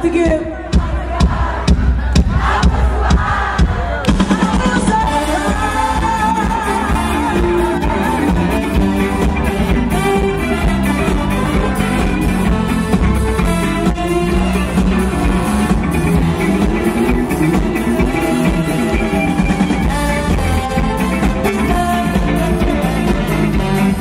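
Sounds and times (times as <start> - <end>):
live band playing disco: 0.0 - 24.0
person singing: 4.1 - 24.0.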